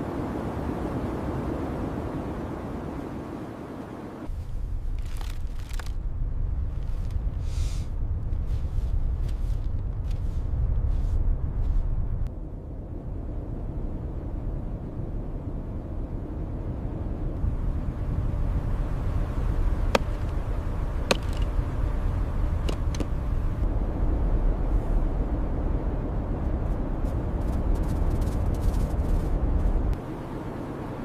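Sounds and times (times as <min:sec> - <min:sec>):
blizzard wind rumbling: 0:00.0 - 0:31.0.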